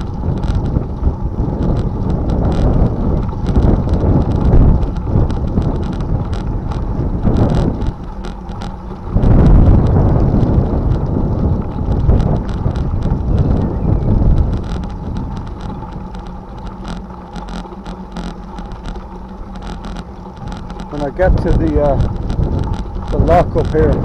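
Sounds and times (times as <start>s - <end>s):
small clicks and rattles: 0.0s - 24.0s
tyres crunching over gravel: 0.0s - 24.0s
wind buffeting microphone: 0.0s - 24.0s.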